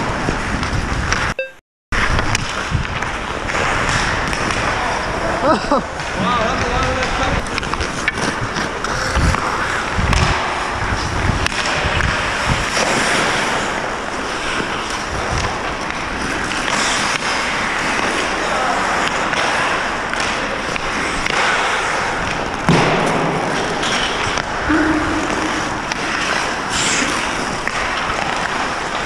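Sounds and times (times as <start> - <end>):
skate blades scraping on ice: 0.0 - 1.3, 2.0 - 29.0.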